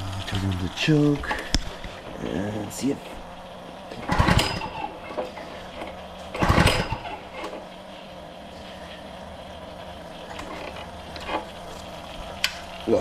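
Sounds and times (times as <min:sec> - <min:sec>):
recoil starter whirring crank: 0:00.0 - 0:07.8, 0:09.7 - 0:13.0.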